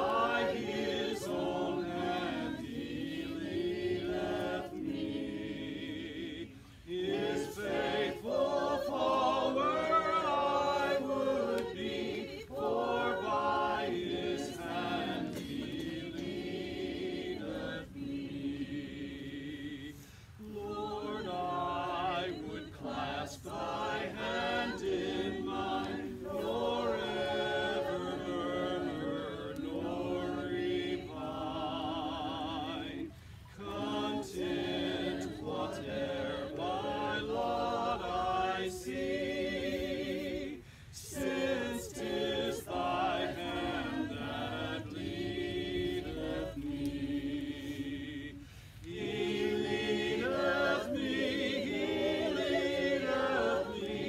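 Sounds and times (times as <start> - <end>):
group singing a hymn unaccompanied: 0.0 - 54.0.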